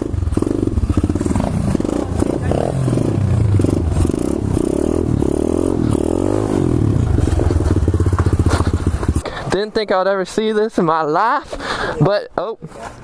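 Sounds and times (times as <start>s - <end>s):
pit bike engines revving and idling: 0.0s - 12.0s.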